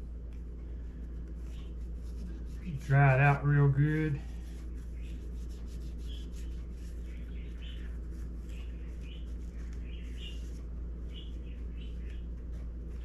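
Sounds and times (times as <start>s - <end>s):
steady low hum: 0.0s - 13.0s
wipe rubbing plastic: 0.0s - 13.0s.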